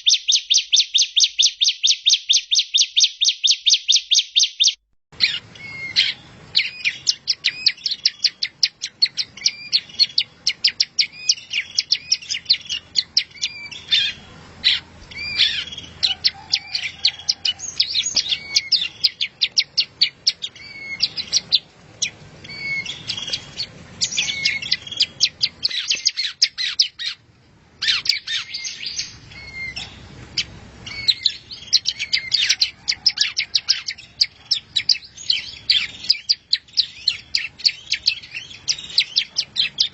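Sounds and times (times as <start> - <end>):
small bird singing: 0.0 - 39.9.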